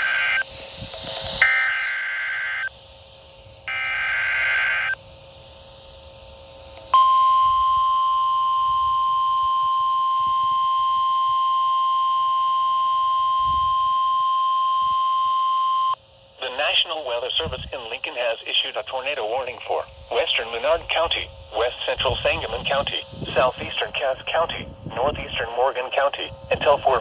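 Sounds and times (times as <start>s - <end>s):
steady warning alarm tone: 0.0s - 2.7s, 3.6s - 5.0s, 6.8s - 16.0s, 18.6s - 27.0s.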